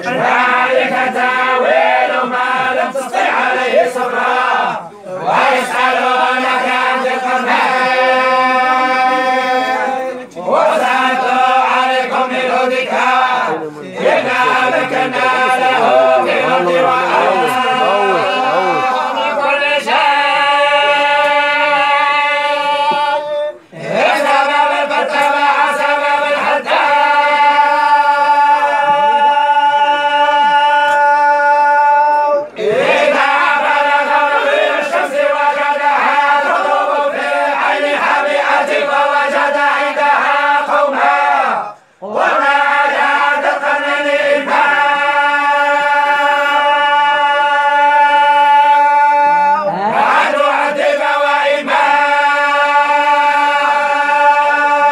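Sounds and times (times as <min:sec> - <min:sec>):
men chanting in unison: 0:00.0 - 0:54.9.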